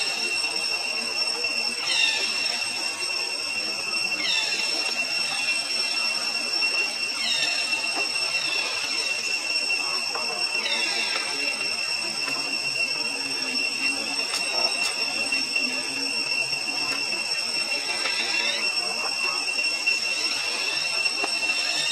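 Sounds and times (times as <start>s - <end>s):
high-pitched whine: 0.0s - 21.9s.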